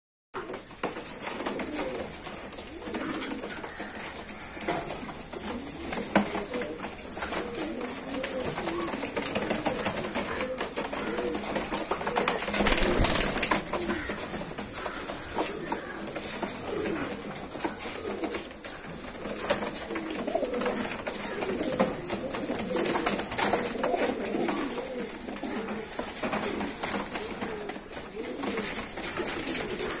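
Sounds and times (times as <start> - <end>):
pigeons cooing: 0.4 - 30.0
wings flapping: 0.4 - 30.0.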